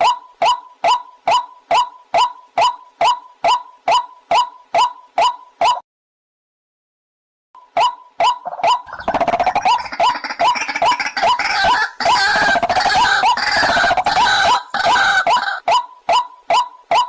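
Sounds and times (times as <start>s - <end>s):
waterhen calling: 0.0s - 5.8s, 7.8s - 17.0s.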